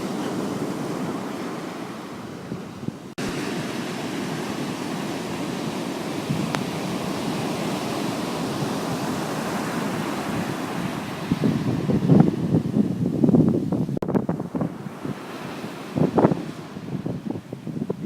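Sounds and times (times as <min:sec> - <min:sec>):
sea surf washing: 0:00.0 - 0:18.0
wind buffeting the microphone: 0:00.0 - 0:18.0.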